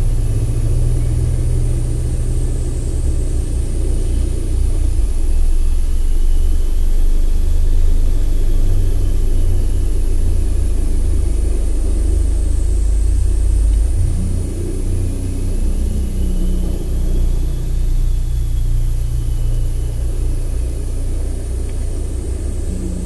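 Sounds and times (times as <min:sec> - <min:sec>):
faint high whine: 0:00.0 - 0:23.0
low rumbling drone: 0:00.0 - 0:23.0.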